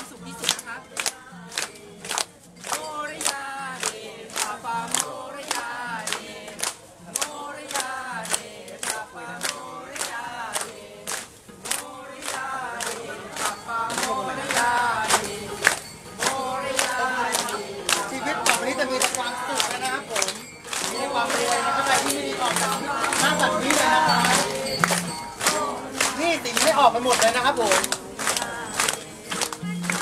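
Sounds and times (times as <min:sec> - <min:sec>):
crowd clapping in time: 0:00.0 - 0:30.0
group singing devotional song: 0:00.0 - 0:30.0.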